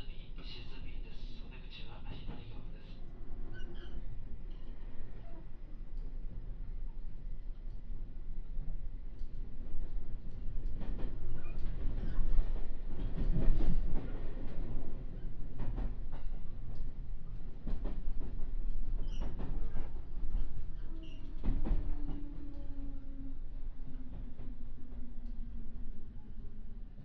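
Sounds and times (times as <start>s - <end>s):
train low rumble: 0.0s - 27.0s.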